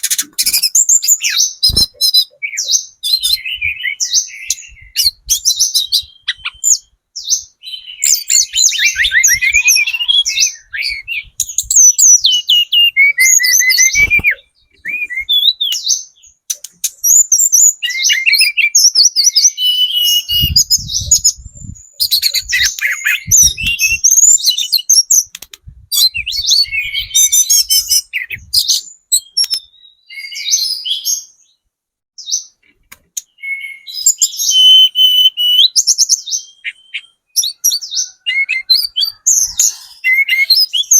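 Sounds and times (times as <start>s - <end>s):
bird singing high trills: 0.0s - 25.4s, 26.0s - 31.6s, 33.2s - 40.9s.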